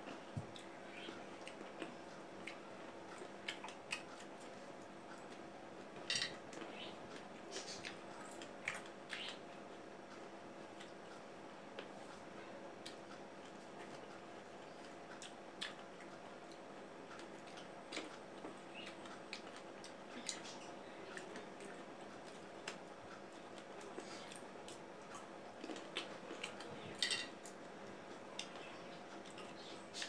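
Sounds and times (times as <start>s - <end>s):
chewing fruit: 0.0s - 30.0s
faint steady hum: 0.0s - 30.0s.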